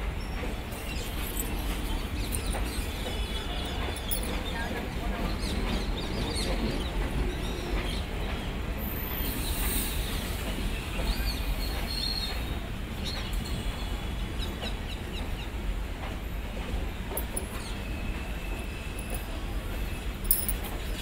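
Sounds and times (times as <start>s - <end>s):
train coaches rumbling past: 0.0s - 21.0s.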